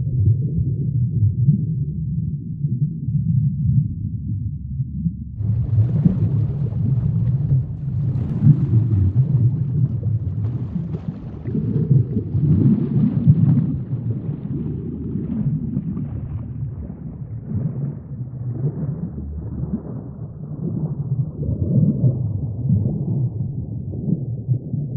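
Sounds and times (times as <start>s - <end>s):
muffled rumbling sea wash: 0.0s - 24.9s.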